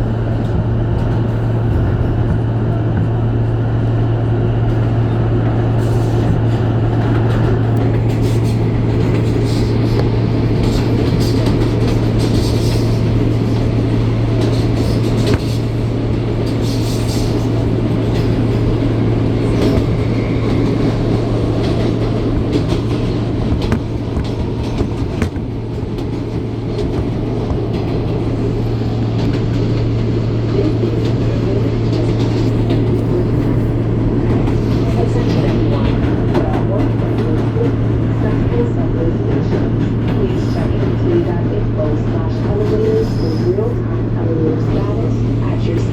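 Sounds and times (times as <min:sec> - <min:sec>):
wheel-on-rail noise: 0:00.0 - 0:41.2
subway car low drone: 0:00.0 - 0:45.9.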